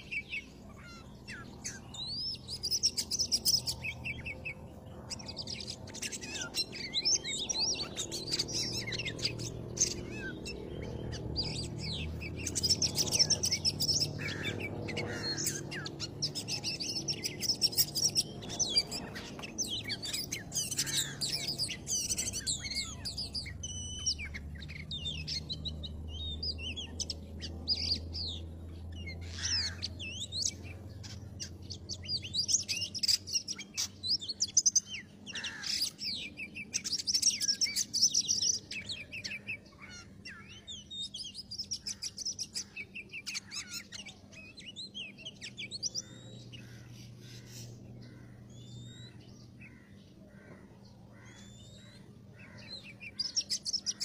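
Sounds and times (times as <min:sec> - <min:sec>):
bird song of whistles and trills: 0:00.0 - 0:54.0.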